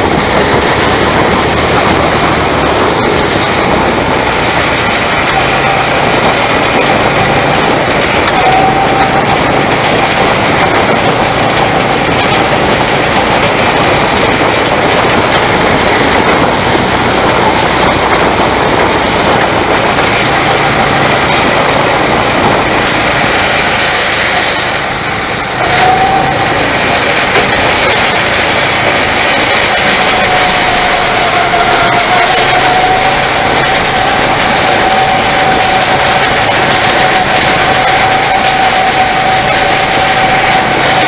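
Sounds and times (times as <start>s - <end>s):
go-kart engine running: 0.0s - 41.0s
road and wind noise: 0.0s - 41.0s.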